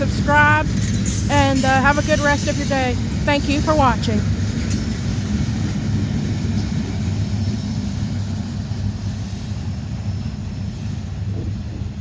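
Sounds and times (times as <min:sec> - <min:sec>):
train rumbling by: 0:00.0 - 0:12.0.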